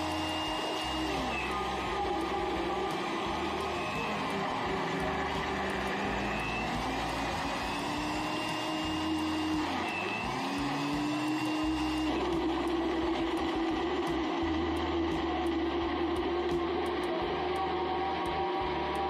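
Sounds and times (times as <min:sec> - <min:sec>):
electric blender running: 0:00.0 - 0:19.0.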